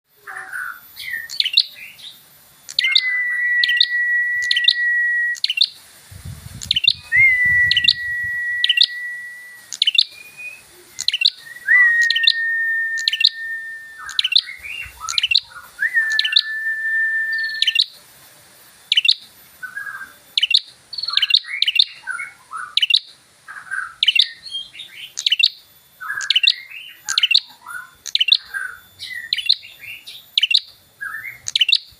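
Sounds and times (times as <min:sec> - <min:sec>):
bird chirping and whistling: 0:00.2 - 0:02.1, 0:02.7 - 0:18.0, 0:18.9 - 0:31.9.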